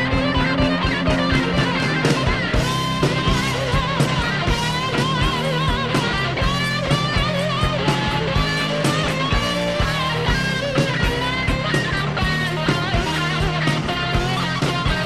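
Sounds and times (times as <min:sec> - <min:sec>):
drum kit beat: 0:00.0 - 0:15.0
lead electric guitar bent notes: 0:00.0 - 0:15.0.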